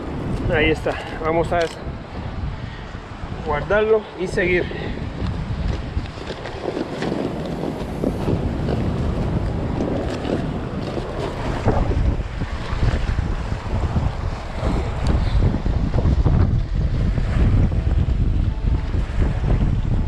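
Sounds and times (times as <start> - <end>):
waves washing on rocky shore: 0.0 - 19.4
wind buffeting microphone: 0.0 - 20.0.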